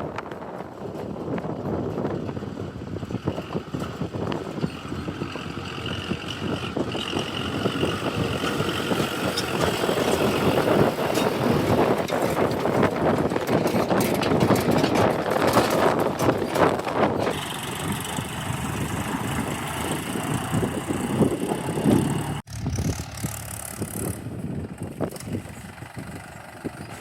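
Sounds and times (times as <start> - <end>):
diesel engine running: 0.1 - 27.0.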